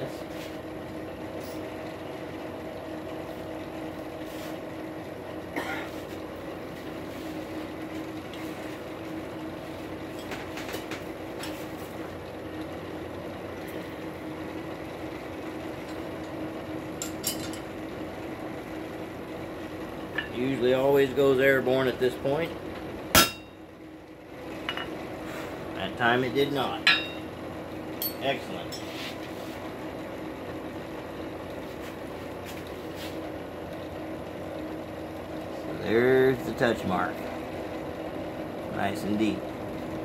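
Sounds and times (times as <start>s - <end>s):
forge humming drone: 0.0s - 40.0s.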